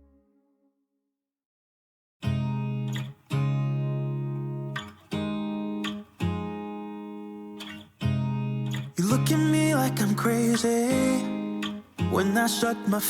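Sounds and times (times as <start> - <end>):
guitar chords ringing: 2.2 - 13.0.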